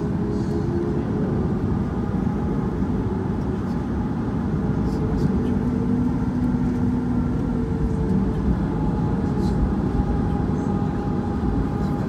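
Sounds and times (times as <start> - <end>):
airplane cabin rumble taxiing: 0.0 - 12.0.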